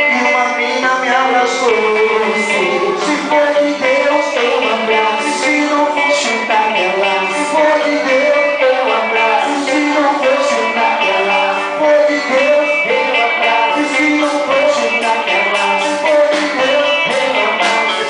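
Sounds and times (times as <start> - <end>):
band playing praise song: 0.0 - 18.0
people singing: 0.0 - 18.0.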